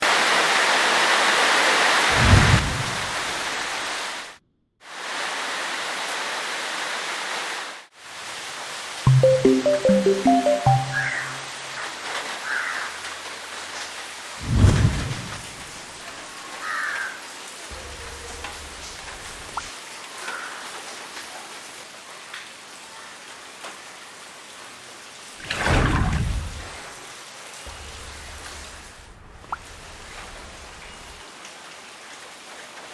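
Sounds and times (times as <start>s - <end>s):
rain hiss: 0.0s - 25.4s, 26.4s - 32.9s.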